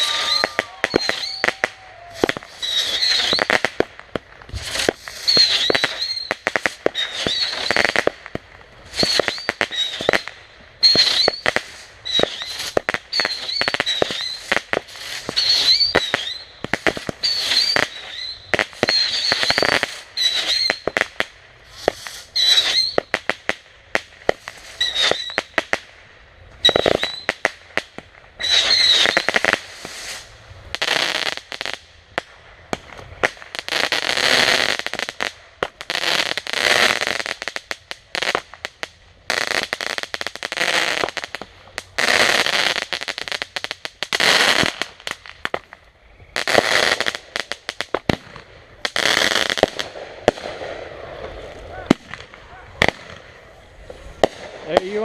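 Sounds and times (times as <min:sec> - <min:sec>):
fireworks popping and crackling: 0:00.0 - 0:55.0
fireworks whistling: 0:00.0 - 0:55.0.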